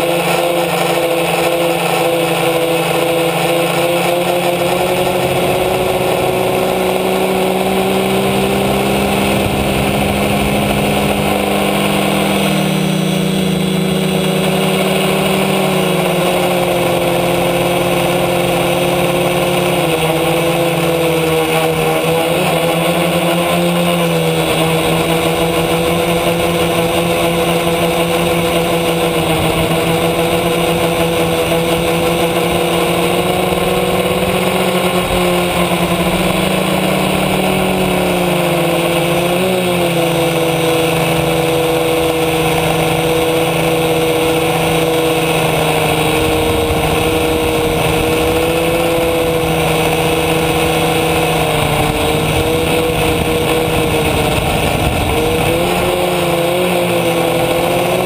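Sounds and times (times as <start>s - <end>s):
quadcopter motors humming: 0.0s - 58.0s.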